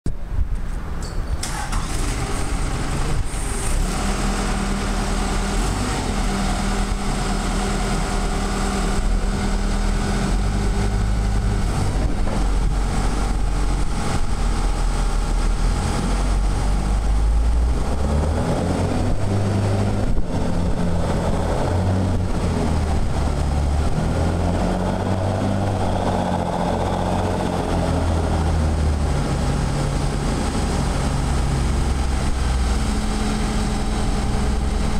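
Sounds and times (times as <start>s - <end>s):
diesel forklift engine revving: 1.4s - 34.9s.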